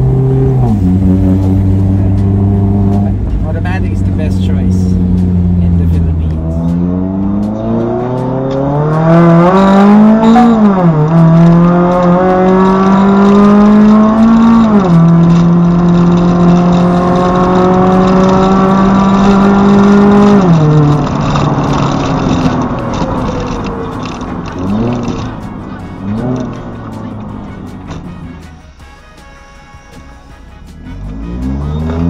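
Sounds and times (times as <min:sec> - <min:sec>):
car engine accelerating hard: 0:00.0 - 0:28.4, 0:30.8 - 0:32.0.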